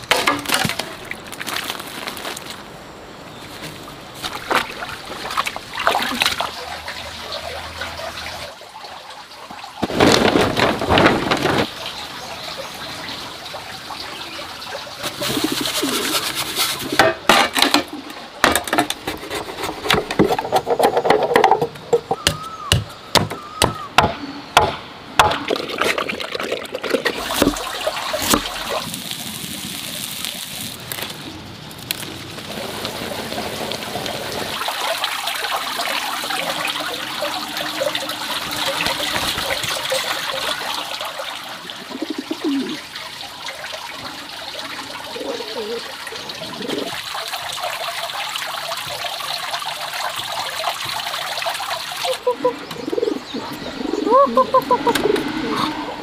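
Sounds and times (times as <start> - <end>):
pigeons splashing water: 3.7 - 18.5, 25.2 - 55.3.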